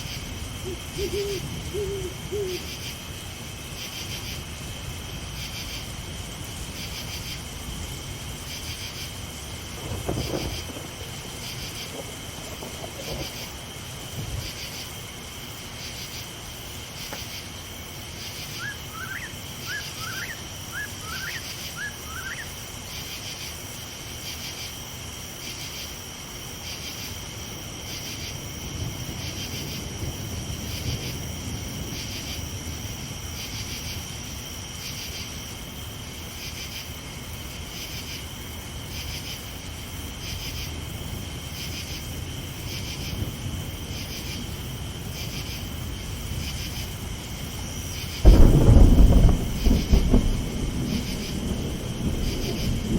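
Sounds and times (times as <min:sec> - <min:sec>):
night insects chirping: 0:00.0 - 0:52.9.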